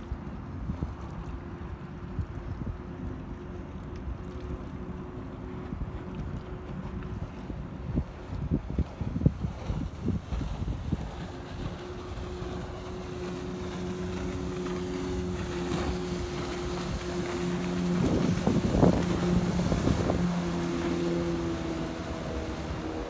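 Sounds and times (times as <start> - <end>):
outboard motor drone: 0.0 - 23.0
wind rumble on microphone: 0.0 - 23.0.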